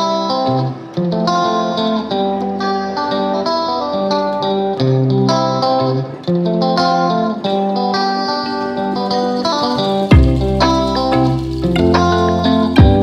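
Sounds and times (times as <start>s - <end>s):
guitar plucking notes: 0.0s - 13.0s.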